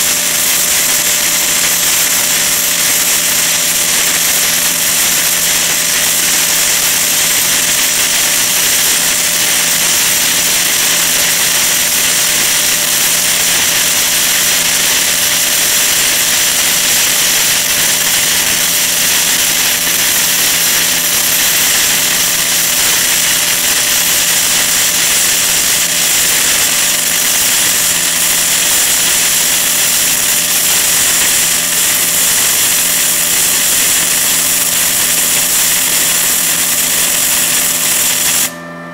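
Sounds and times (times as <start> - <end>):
welding arc crackling and hissing: 0.0 - 38.5.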